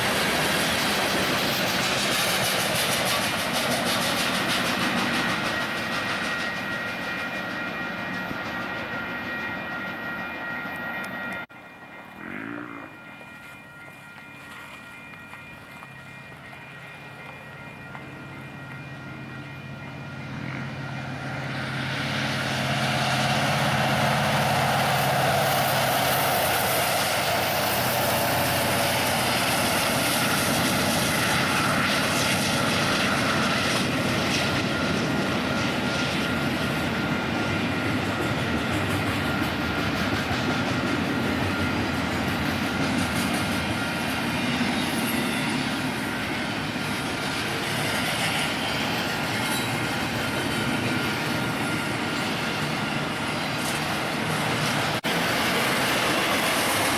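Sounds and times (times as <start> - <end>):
train wheels on rail: 0.0 - 12.2, 13.0 - 56.9
diesel locomotive engine hum: 0.0 - 56.9.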